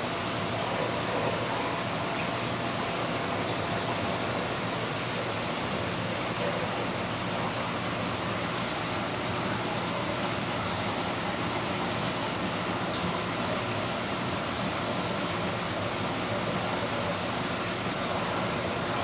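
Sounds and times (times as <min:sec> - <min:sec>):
flowing water: 0:00.0 - 0:19.0.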